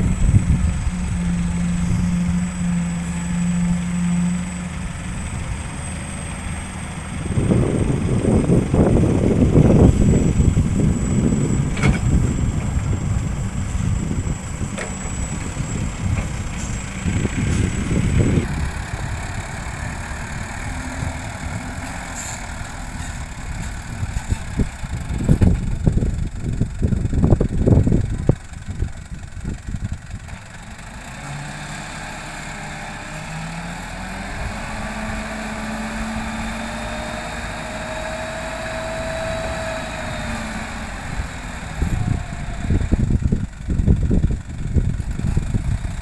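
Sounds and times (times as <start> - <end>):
dump truck engine running: 0.0 - 46.0.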